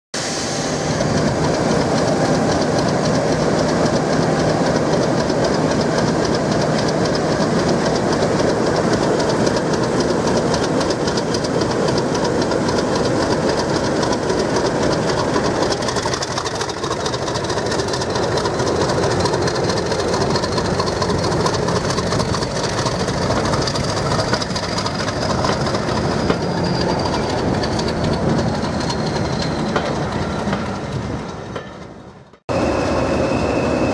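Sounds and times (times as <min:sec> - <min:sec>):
diesel locomotive engine working: 0:00.2 - 0:33.9
coach wheels clicking over rail joints: 0:00.9 - 0:32.4.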